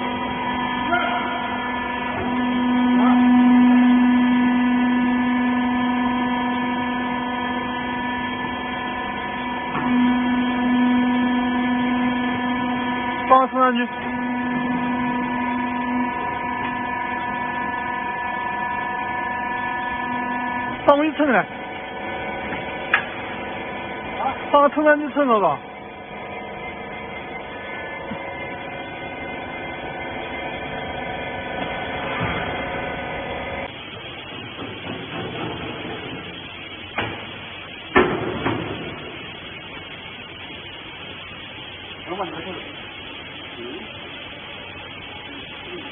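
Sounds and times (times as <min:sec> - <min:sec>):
hydraulic power unit humming: 0:00.0 - 0:45.9.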